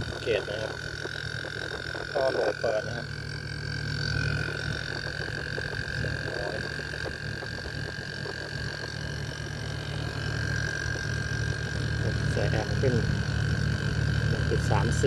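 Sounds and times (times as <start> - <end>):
air conditioner unit humming: 0.0 - 15.0
thin high whine: 0.0 - 15.0.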